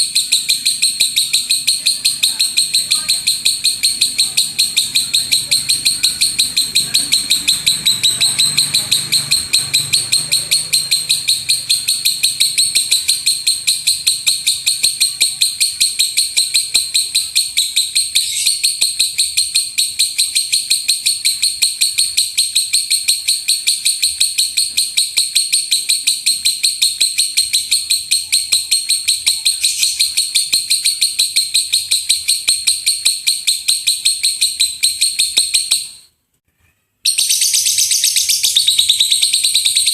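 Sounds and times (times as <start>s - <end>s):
lovebird chattering: 0.0s - 36.0s, 37.1s - 39.9s.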